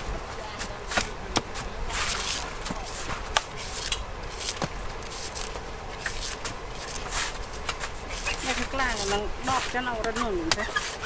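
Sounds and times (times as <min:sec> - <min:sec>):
knife scraping coconut husk: 0:00.6 - 0:11.0.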